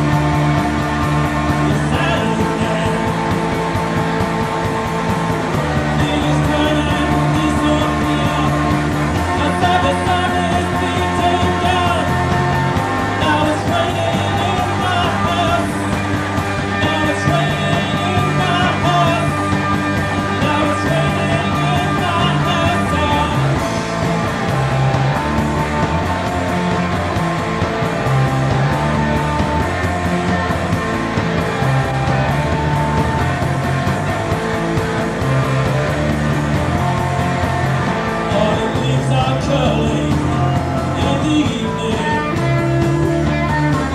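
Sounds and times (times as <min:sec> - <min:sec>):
rock band music: 0:00.0 - 0:43.9.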